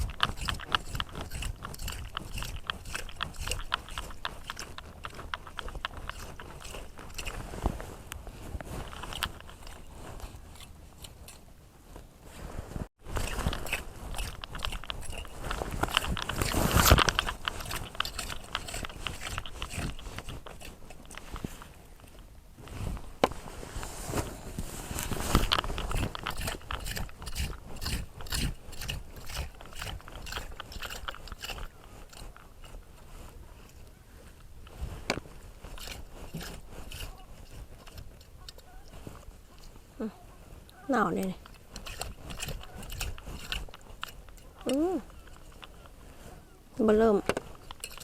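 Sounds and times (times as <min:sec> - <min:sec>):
rake scraping wet sand and shells: 0:00.0 - 0:11.5, 0:13.0 - 0:48.0.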